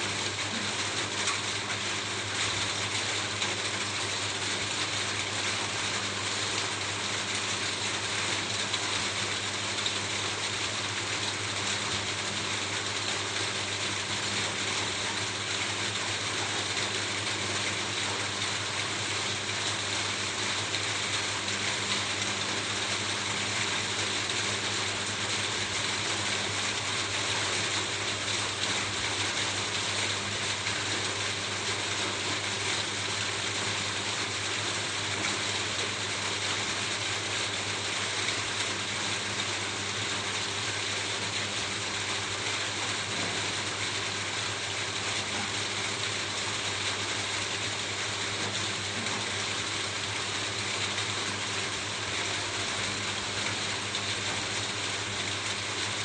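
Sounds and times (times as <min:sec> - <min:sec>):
rain falling on a roof: 0:00.0 - 0:56.0.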